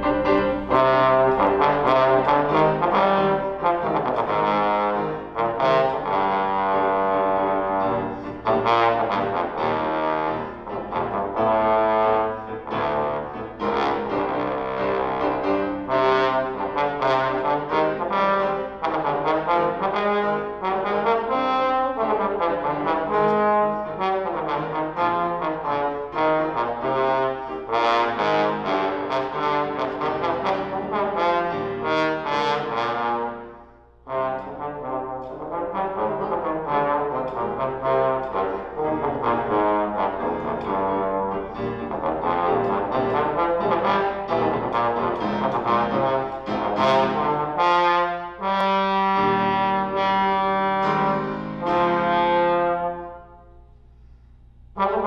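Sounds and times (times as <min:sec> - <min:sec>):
trombone solo: 0:00.0 - 0:53.7, 0:54.7 - 0:55.0
piano accompaniment: 0:00.0 - 0:55.0.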